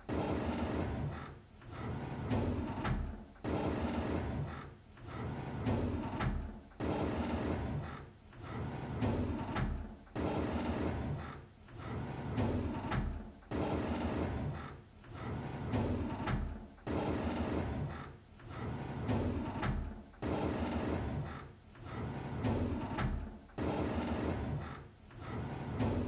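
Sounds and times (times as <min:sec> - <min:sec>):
drawer sliding on runners: 0:00.1 - 0:26.0.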